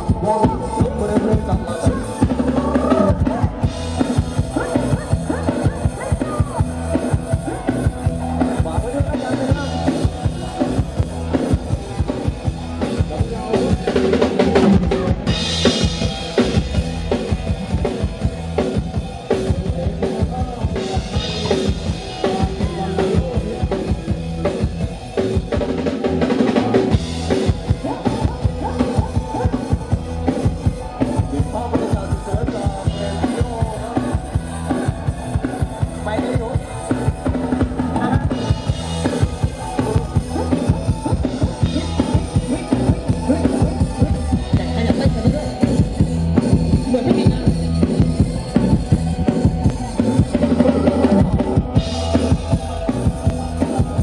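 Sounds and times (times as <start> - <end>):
drums driving beat: 0.0 - 54.0
electric guitars: 0.0 - 54.0
keyboard: 0.0 - 54.0
loud live band music: 0.0 - 54.0.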